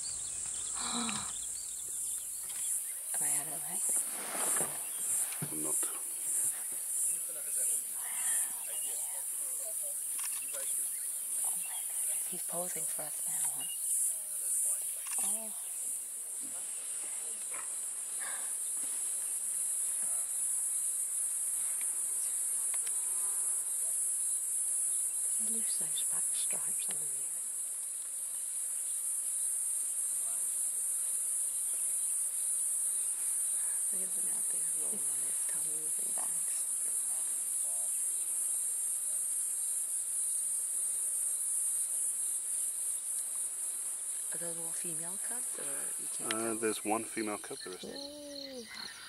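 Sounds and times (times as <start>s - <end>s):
insects shrilling: 0.0s - 49.0s.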